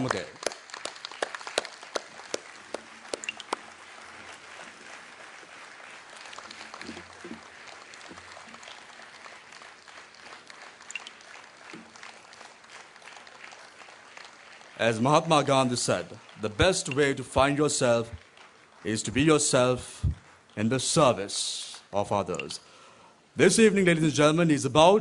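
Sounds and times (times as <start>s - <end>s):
audience applauding: 0.0s - 21.3s.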